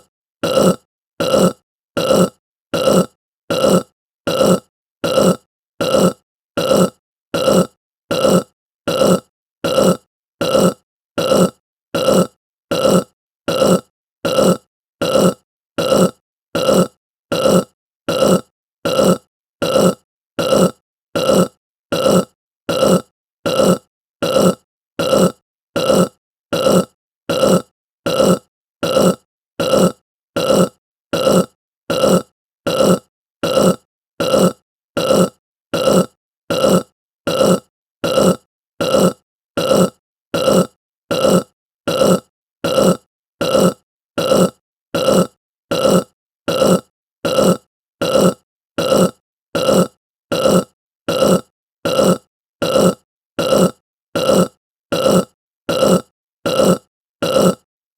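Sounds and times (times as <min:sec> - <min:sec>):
person burping: 0:00.0 - 0:57.7.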